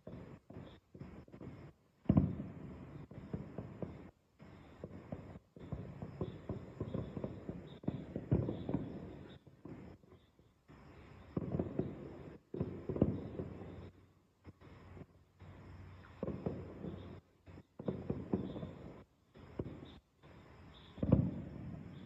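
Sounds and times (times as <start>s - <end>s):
fireworks pops and crackles: 0.0s - 22.0s.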